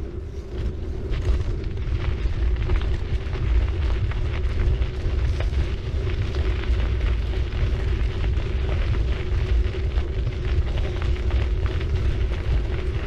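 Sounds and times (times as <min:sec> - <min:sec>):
bicycle tyre hum: 0:00.0 - 0:13.0
crackle of small clicks: 0:00.0 - 0:13.0
wind buffeting microphone: 0:00.0 - 0:13.0.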